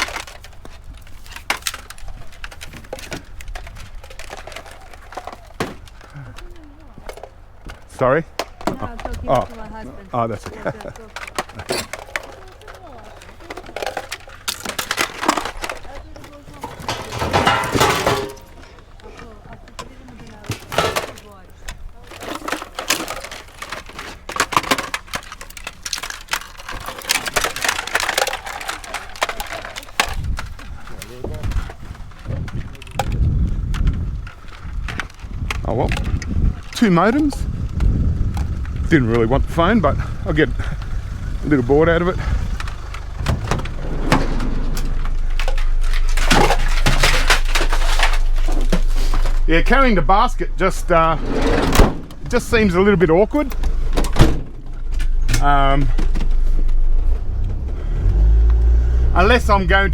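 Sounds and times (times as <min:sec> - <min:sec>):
plastic and metal clattering: 0:00.0 - 0:59.9
rustling: 0:00.0 - 0:59.9.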